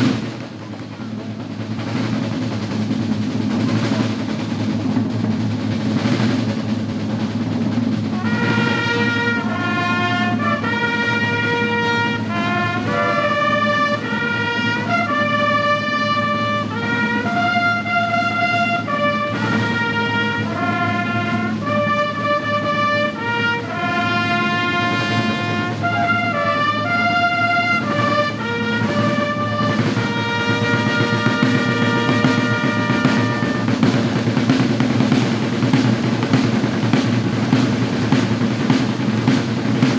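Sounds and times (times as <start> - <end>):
brass melody: 0.0 - 0.6, 5.8 - 39.9
drumming: 0.0 - 39.9.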